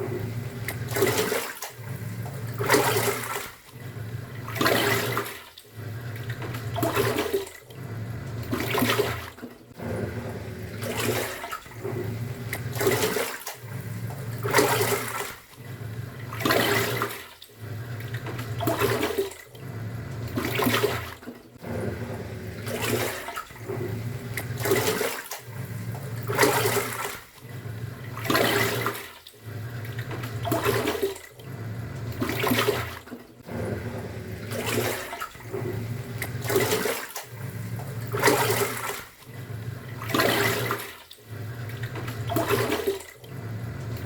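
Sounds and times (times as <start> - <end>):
washing machine motor humming: 0.0 - 44.0
water sloshing: 0.0 - 44.0.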